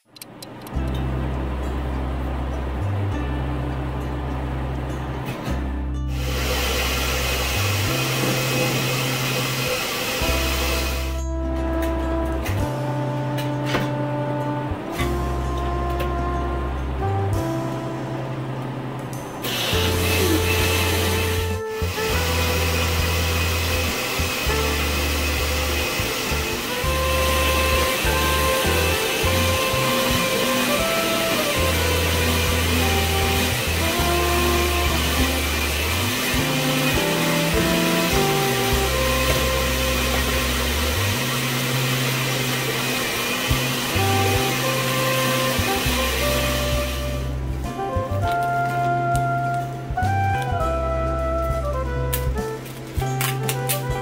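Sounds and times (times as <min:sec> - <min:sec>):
background music with bass line: 0:00.7 - 0:54.0.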